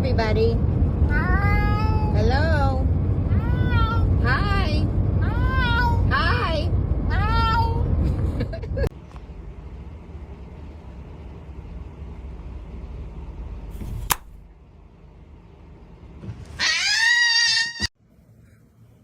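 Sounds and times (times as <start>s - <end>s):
low steady rumble: 0.0s - 16.7s.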